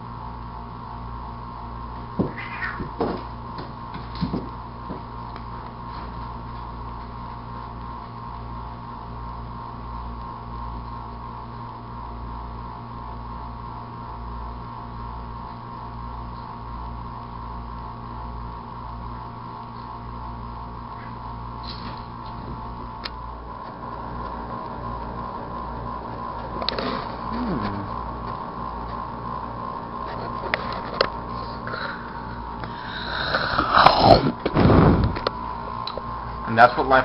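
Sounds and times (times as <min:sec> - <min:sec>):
electrical hum: 0:00.0 - 0:37.0.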